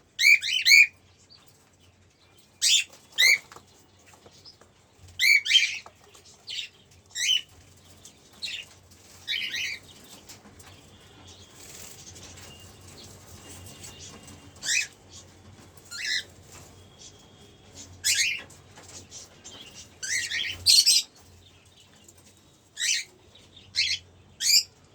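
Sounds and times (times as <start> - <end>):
cockatiels chirping: 0.2 - 1.7, 2.3 - 24.8.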